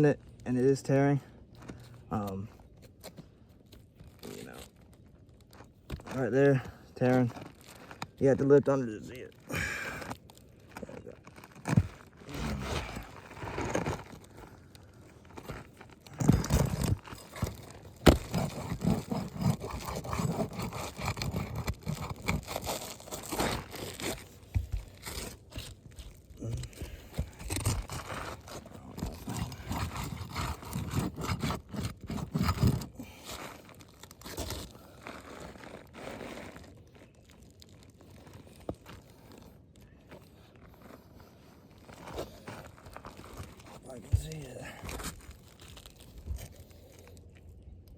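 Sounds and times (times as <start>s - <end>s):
roof shingles scraping and tearing: 1.6s - 47.3s.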